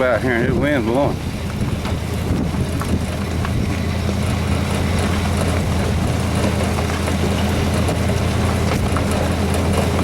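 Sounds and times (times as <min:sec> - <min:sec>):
engine running steadily: 0:00.0 - 0:10.0
wind noise on microphone: 0:00.0 - 0:10.0.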